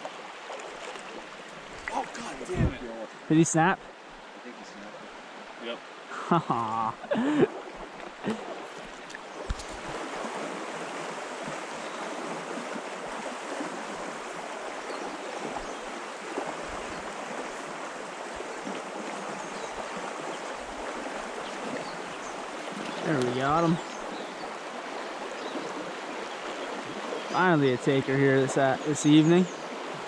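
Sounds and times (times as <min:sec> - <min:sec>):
creek water flowing: 0:00.0 - 0:30.0.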